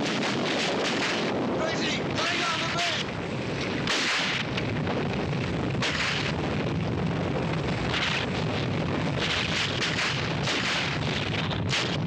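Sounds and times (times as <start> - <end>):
low rumble of avalanche: 0.0 - 12.0.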